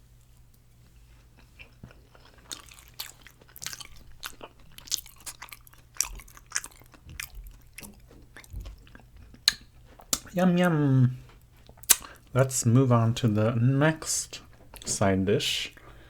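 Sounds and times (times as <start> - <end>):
chewing and crunching carrot: 0.8 - 14.9.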